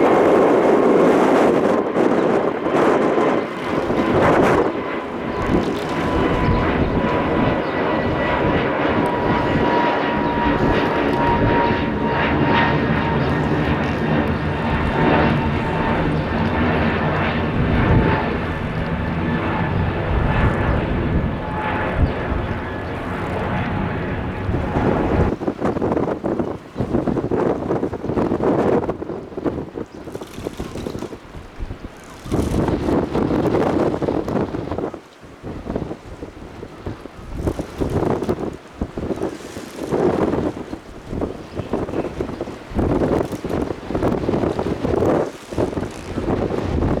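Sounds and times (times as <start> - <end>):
jet engine roar with whine: 0.0 - 47.0.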